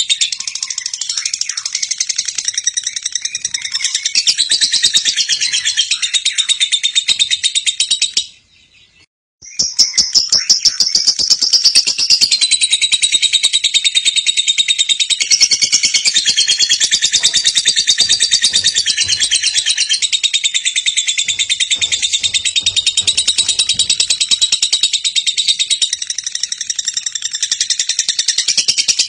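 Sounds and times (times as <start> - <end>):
lovebird chirping: 0.0 - 29.0.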